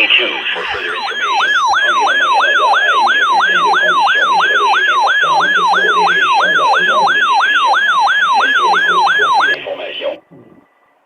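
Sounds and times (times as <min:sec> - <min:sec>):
warbling electronic alert tone: 0:00.5 - 0:09.6.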